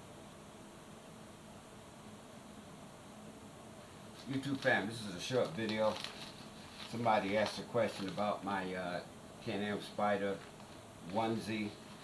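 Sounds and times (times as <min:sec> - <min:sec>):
faint microphone hiss: 0:00.0 - 0:12.0.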